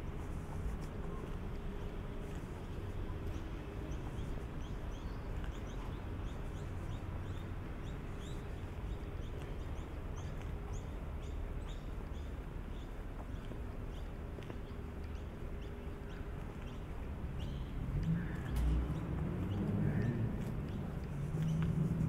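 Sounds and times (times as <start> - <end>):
birds chirping: 1.0 - 22.0.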